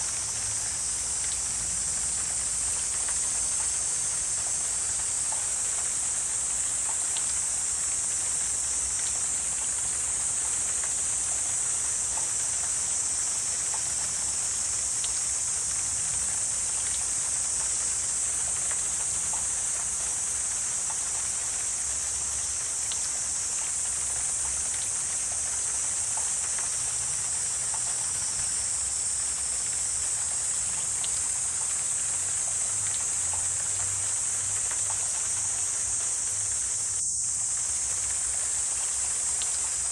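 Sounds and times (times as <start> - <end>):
insect chorus buzzing drone: 0.0 - 39.9
faint ticks: 1.2 - 28.6, 29.2 - 39.9.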